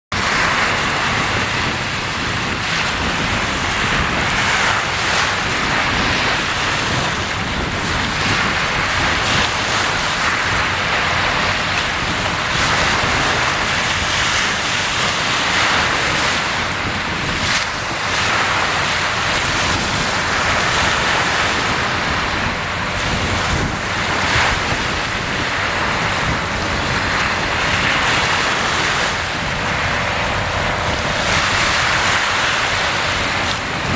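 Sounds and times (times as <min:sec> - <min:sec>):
sea waves washing in: 0:00.1 - 0:33.9.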